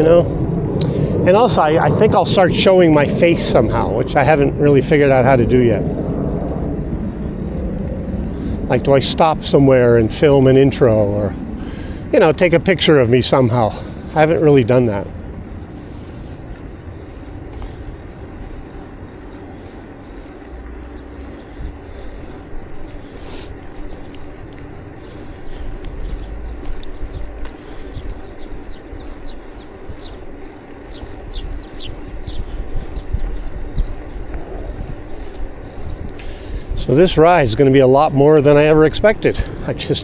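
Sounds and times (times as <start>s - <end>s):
bicycle rolling: 0.0s - 40.0s
wind buffeting microphone: 0.0s - 40.0s.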